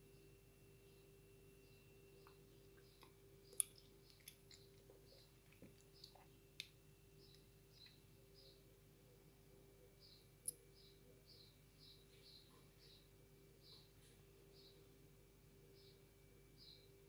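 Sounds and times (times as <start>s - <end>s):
aquarium filter pump hum: 0.0s - 17.0s.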